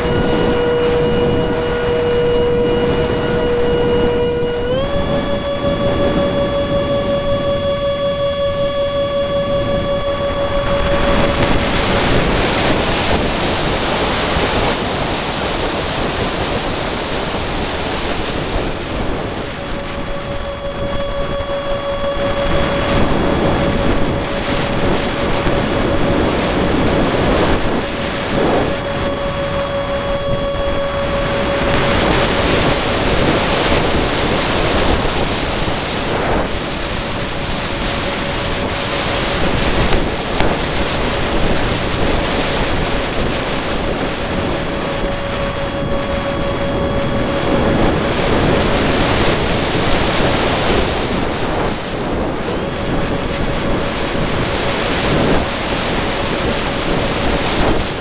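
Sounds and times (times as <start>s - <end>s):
model jet electric fan whining: 0.0s - 58.0s
wind buffeting microphone: 0.0s - 58.0s.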